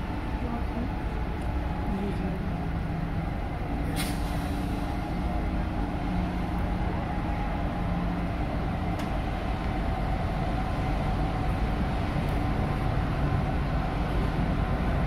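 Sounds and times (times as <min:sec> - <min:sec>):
diesel locomotive engines droning: 0:00.0 - 0:15.0.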